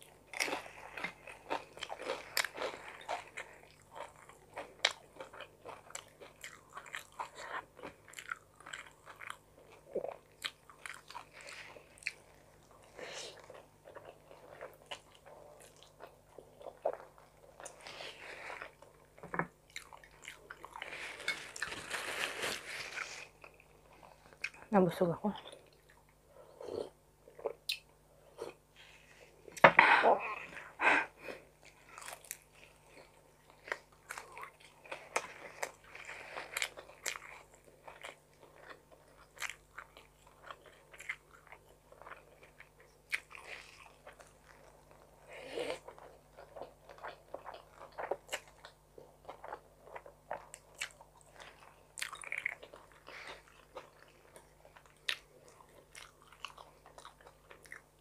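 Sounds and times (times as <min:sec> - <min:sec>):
chewing and mouth sounds: 0:00.0 - 0:21.9, 0:31.6 - 0:58.0.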